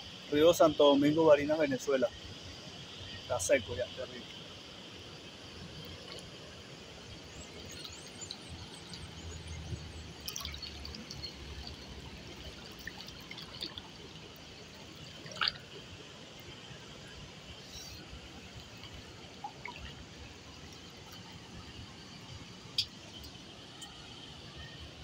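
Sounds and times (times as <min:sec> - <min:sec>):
faint steady hiss: 0:00.0 - 0:25.0
river water trickling and dripping: 0:00.0 - 0:25.0.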